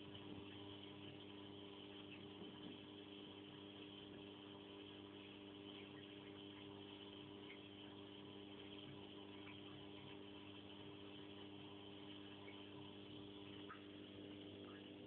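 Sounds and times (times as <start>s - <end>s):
faint steady hum with hiss: 0.0s - 15.0s.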